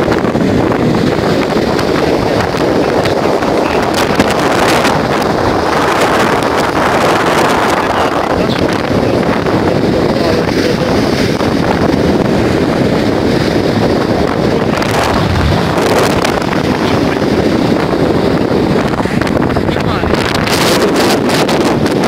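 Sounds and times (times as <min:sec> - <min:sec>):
heavy wind on microphone: 0:00.0 - 0:22.0
surf breaking on shore: 0:00.0 - 0:22.0.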